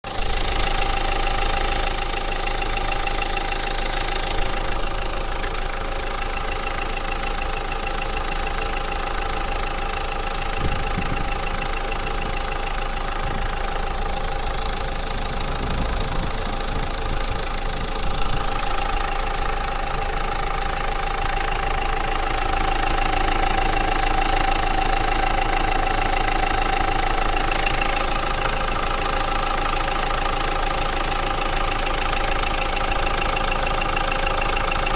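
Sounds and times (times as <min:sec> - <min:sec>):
car engine running with whine: 0:00.0 - 0:34.9
rapid engine ticking: 0:00.0 - 0:34.9.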